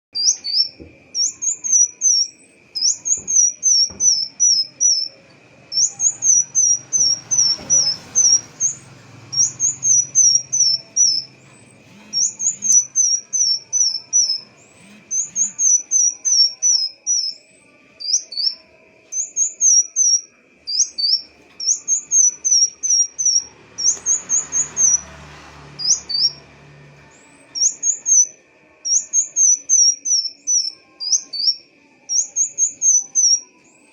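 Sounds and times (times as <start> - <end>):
sunbird singing sharp chirps: 0.2 - 33.9.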